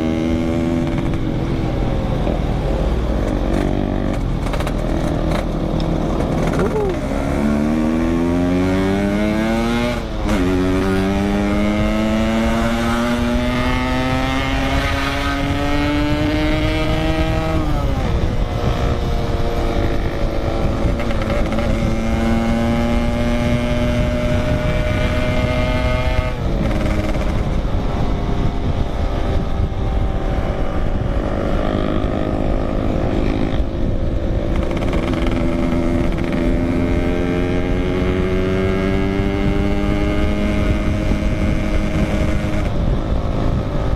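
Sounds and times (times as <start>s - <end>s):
motorcycle engine accelerating: 0.0s - 43.9s
wind rumbling on microphone: 0.0s - 43.9s.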